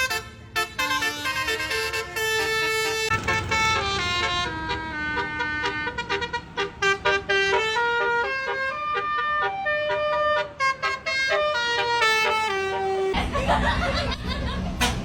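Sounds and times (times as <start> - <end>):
truck musical horn melody: 0.0 - 13.2.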